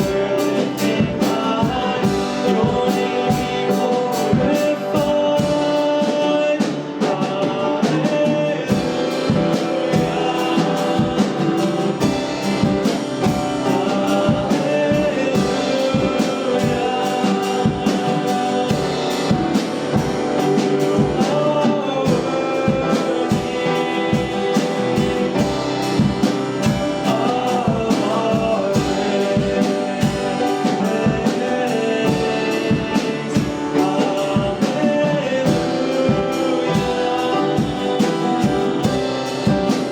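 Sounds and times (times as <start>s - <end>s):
drum beat: 0.0s - 39.9s
live worship band playing: 0.0s - 39.9s
person singing: 0.0s - 39.9s.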